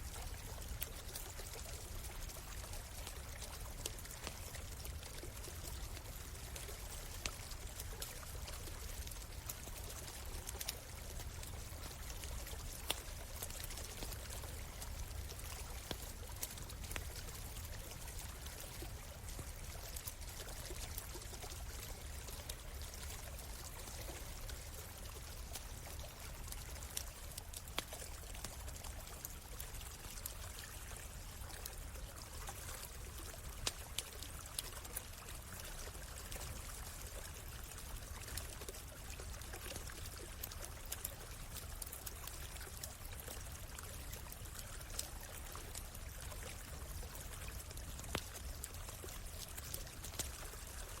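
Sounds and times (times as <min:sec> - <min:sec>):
stream running over stones: 0:00.0 - 0:51.0
campfire crackling: 0:00.2 - 0:51.0.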